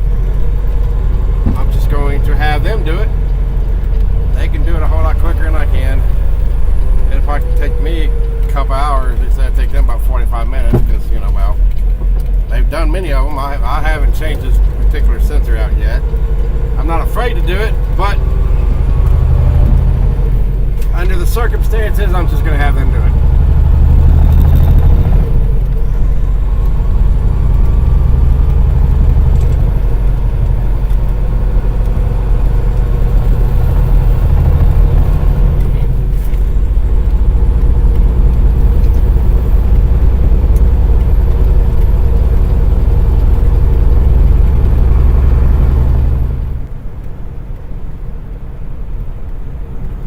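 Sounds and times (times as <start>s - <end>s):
truck diesel engine drone: 0.0s - 50.0s.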